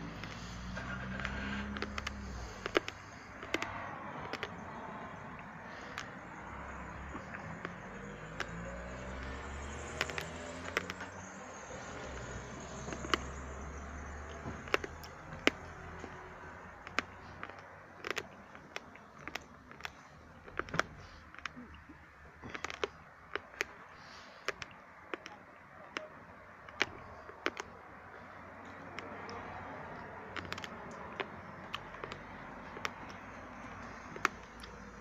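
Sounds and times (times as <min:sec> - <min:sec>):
sharp clicks: 0:00.0 - 0:35.0
vehicle engine running: 0:00.0 - 0:35.0.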